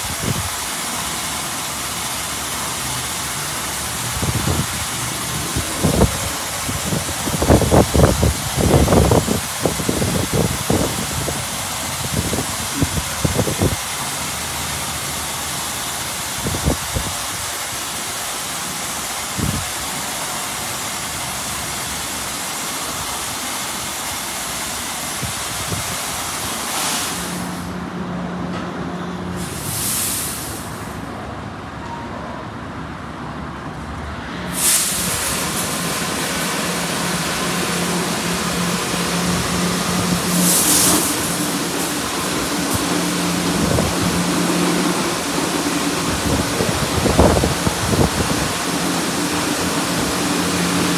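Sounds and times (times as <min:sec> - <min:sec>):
car wash water spray hissing: 0:00.0 - 0:28.2, 0:29.0 - 0:31.2, 0:34.3 - 0:50.9.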